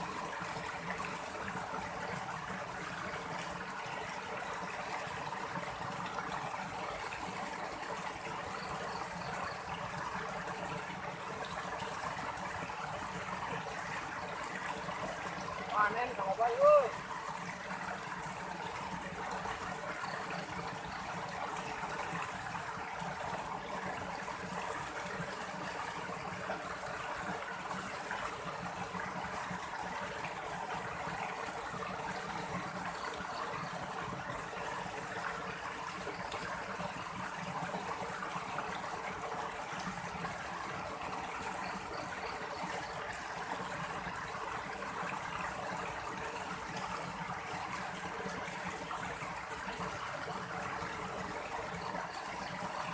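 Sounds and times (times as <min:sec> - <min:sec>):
stream water rushing: 0:00.0 - 0:52.9.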